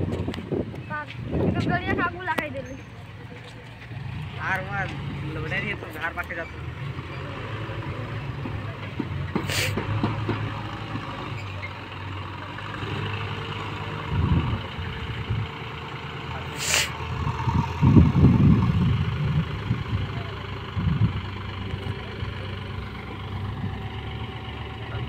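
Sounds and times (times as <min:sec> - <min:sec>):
diesel tractor engine running: 0:00.0 - 0:25.0
hydraulic trailer tipping earth: 0:04.9 - 0:25.0.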